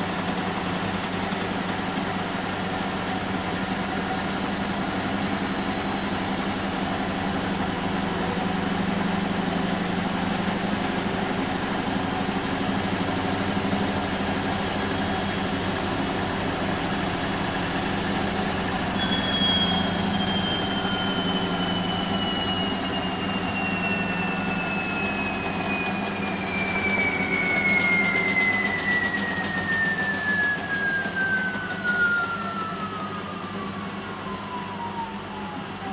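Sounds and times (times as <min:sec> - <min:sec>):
washing machine humming: 0:00.0 - 0:35.9
high motor whine: 0:02.2 - 0:35.9.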